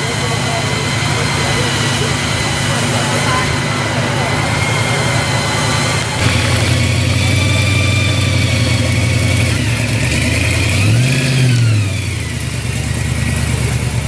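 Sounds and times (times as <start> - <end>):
car engine idling and revving: 0.0 - 14.0
supercharger whine: 0.0 - 14.0.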